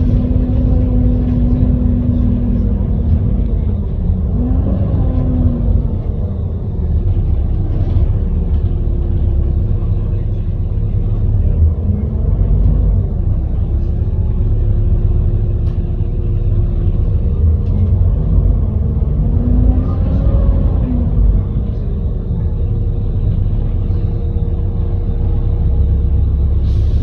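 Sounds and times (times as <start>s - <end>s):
bus engine rumble: 0.0s - 27.0s.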